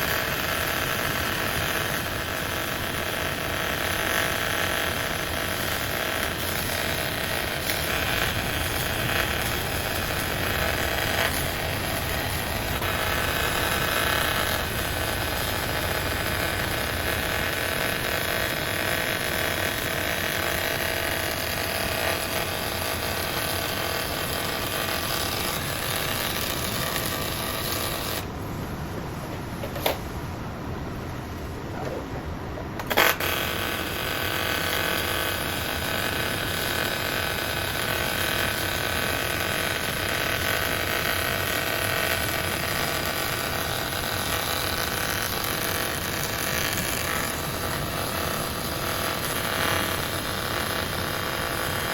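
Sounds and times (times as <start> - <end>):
welding arc hiss and buzz: 0.0 - 28.5, 31.2 - 51.9.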